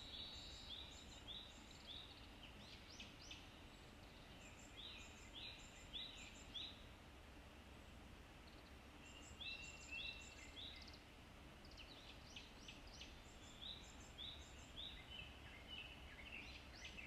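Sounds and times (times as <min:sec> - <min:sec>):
birdsong whistles and trills: 0:00.0 - 0:06.8, 0:08.4 - 0:17.0
low steady hum: 0:00.0 - 0:17.0.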